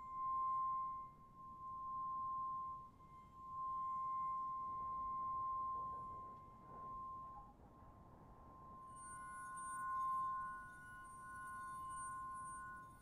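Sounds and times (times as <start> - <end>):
high-pitched ringing tone: 0.0 - 13.0.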